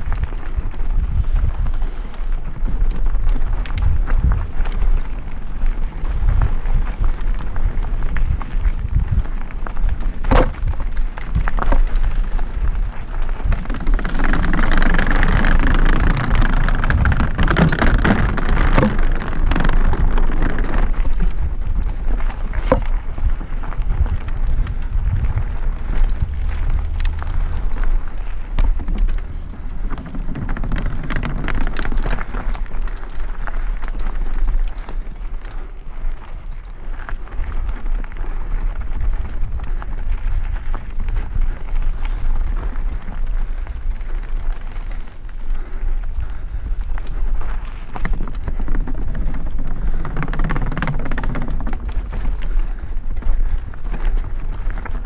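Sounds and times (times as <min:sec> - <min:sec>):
bike rattling and knocking: 0:00.0 - 0:55.0
tyres crunching over gravel: 0:00.0 - 0:55.0
wind rumbling on microphone: 0:00.0 - 0:55.0.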